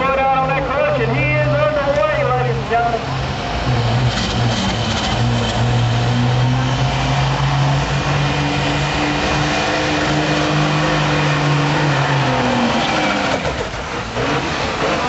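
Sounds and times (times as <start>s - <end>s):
diesel truck engine revving hard: 0.0s - 15.0s.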